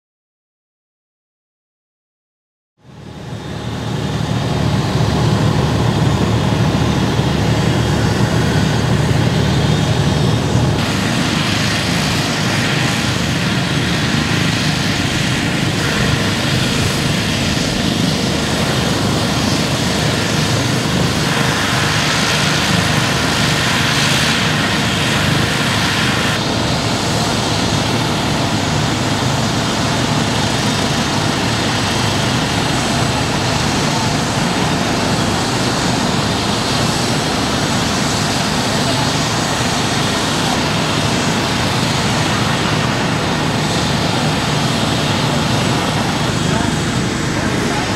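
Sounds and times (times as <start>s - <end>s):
helicopter running: 2.8s - 47.9s.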